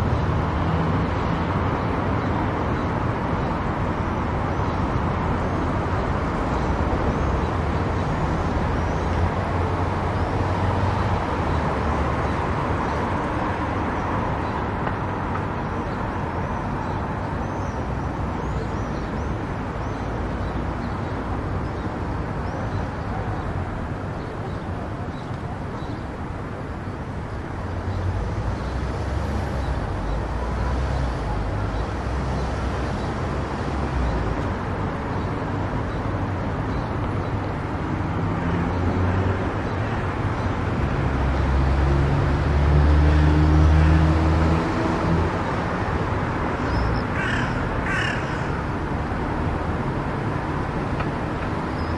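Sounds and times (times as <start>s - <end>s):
car road noise: 0.0s - 51.9s.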